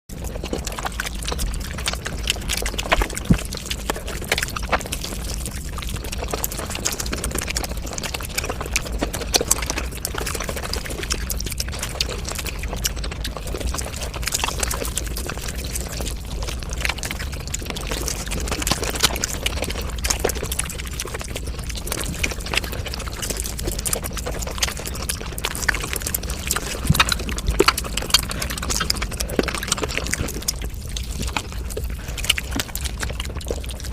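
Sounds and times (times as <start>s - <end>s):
steady low hum: 0.1s - 33.9s
wet chewing and mouth smacking: 0.1s - 33.9s.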